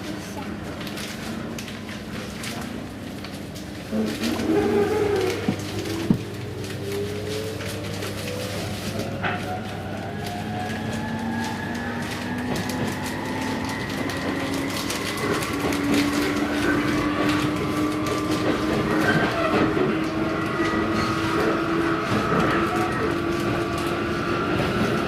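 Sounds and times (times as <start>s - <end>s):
train running noise: 0.0s - 25.0s
wheels clicking over rail joints: 0.7s - 25.0s.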